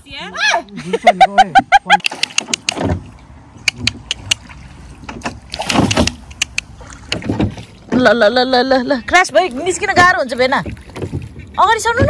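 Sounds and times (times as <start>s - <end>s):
oars splashing through water: 1.6s - 12.0s.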